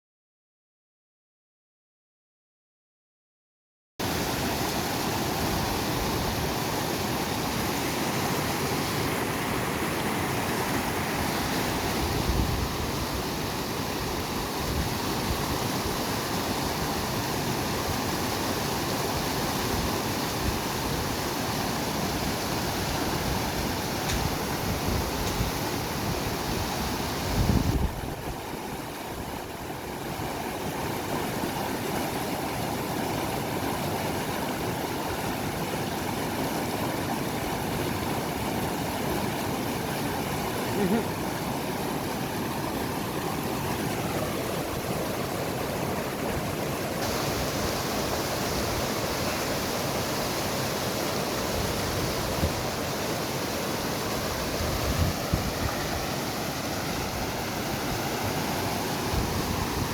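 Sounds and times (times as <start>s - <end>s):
fast-flowing river rushing: 4.0s - 59.9s.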